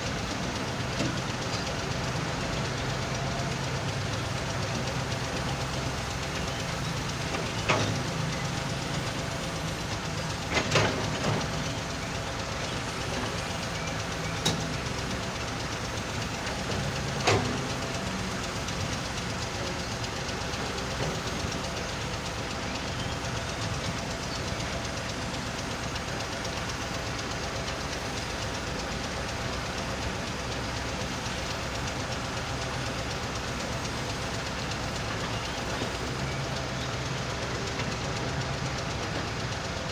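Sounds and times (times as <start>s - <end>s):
excavator running: 0.0s - 39.9s
screening machine running: 0.0s - 39.9s.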